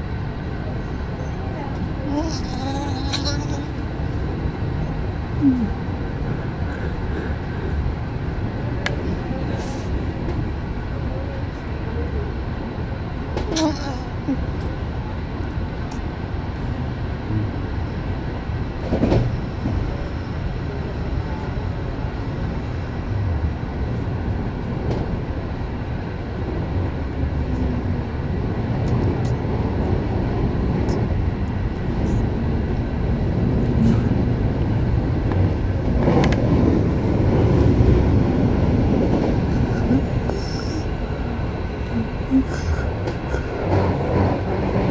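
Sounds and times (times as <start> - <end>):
train wheels rumbling: 0.0 - 44.9.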